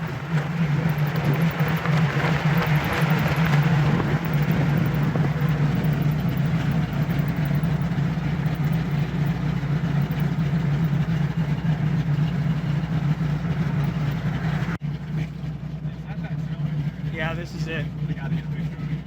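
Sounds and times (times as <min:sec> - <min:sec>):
car engine and exhaust drone: 0:00.0 - 0:19.0
road noise: 0:00.0 - 0:19.0.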